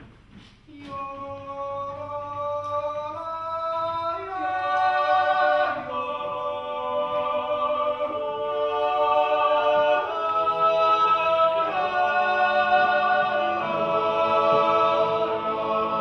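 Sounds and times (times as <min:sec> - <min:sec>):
men's choir yodeling: 0:00.8 - 0:16.0.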